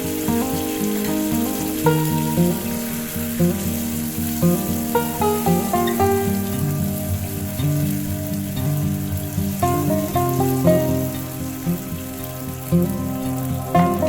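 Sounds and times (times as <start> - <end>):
food sizzling in oil: 0.0 - 14.0
melodic background music: 0.0 - 14.0.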